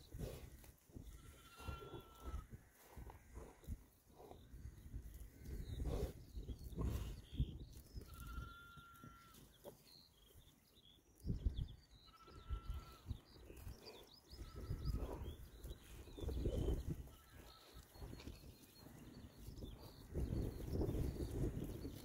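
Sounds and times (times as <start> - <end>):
pigs grunting and snuffling: 0.0 - 10.5, 12.2 - 22.0
faint bird chirps: 4.2 - 22.0.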